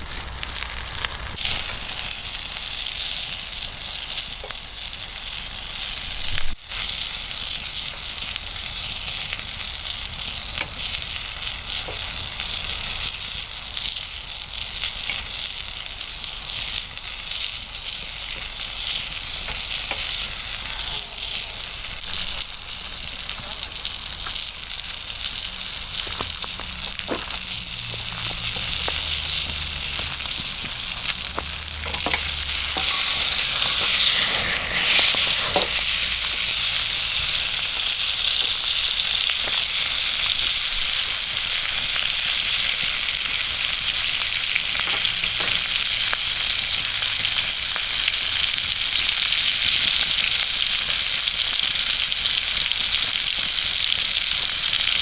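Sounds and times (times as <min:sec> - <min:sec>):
meat sizzling in a skillet: 0:00.0 - 0:55.0.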